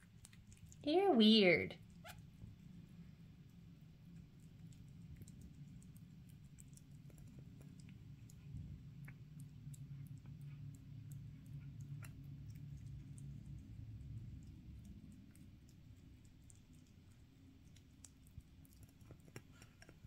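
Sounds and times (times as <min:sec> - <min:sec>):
kitten suckling and licking: 0:00.0 - 0:01.0, 0:01.7 - 0:20.0
low steady hum: 0:00.0 - 0:20.0.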